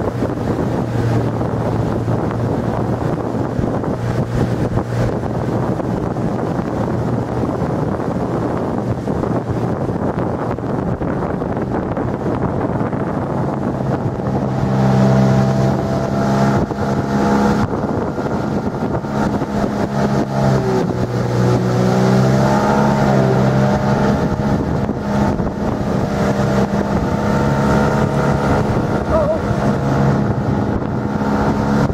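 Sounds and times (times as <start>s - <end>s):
outboard motor running: 0.0s - 31.9s
wind on microphone: 0.0s - 31.9s.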